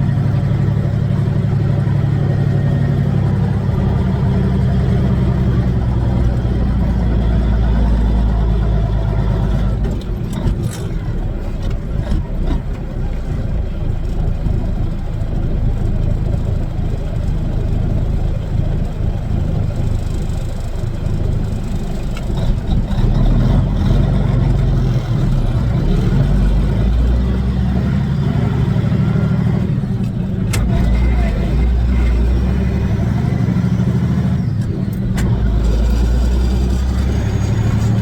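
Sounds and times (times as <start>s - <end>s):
truck diesel engine running: 0.0s - 38.0s.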